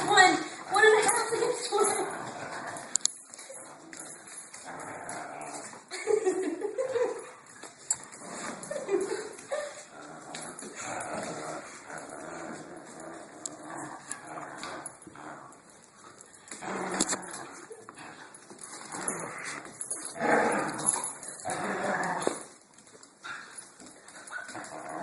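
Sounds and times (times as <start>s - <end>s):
dogs growling in play: 0.0s - 25.0s.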